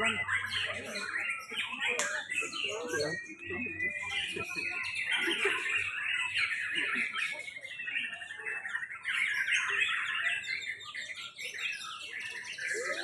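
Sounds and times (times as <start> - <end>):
many songbirds singing: 0.0 - 13.0.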